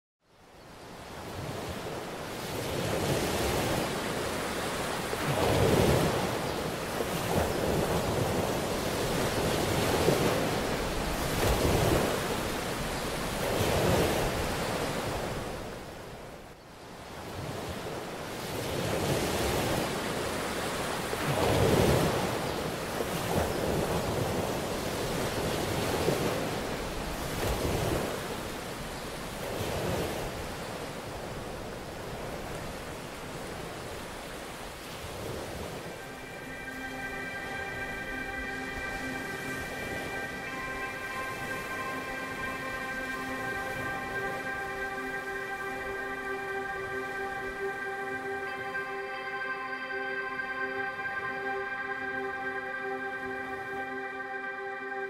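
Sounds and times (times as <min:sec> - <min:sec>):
ocean waves breaking: 0:00.8 - 0:55.0.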